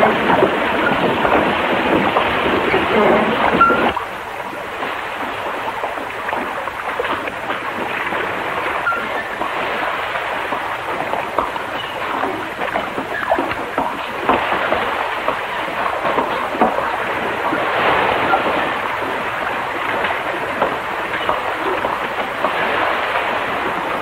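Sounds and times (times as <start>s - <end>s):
water splashing off water wheel: 0.0s - 24.0s.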